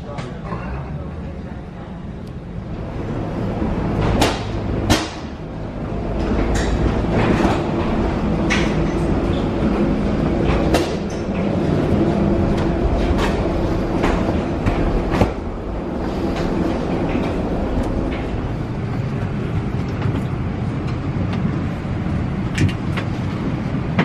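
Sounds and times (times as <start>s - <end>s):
low rumble: 0.8s - 24.0s.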